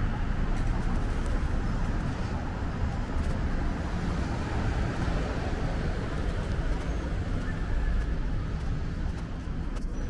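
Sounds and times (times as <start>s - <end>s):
passing vehicles rumbling: 0.0s - 10.0s.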